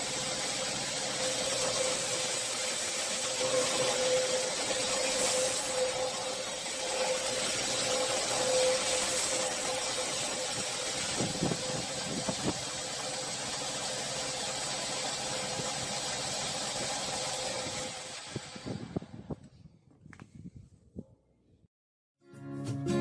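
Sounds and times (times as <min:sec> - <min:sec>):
sanding belt hissing: 0:00.0 - 0:18.8
belt sander motor humming: 0:00.0 - 0:19.1.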